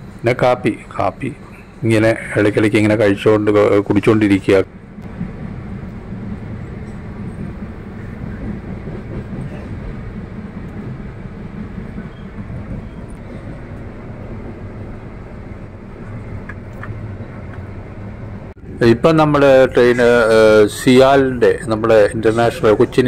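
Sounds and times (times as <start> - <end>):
low hum: 0.0 - 23.0
train wheels on track: 0.0 - 23.0.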